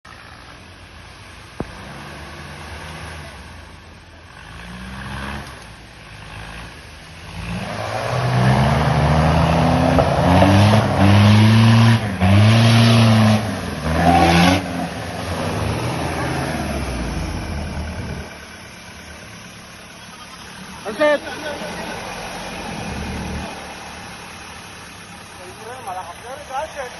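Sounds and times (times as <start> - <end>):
off-road engine revving: 0.1 - 26.9.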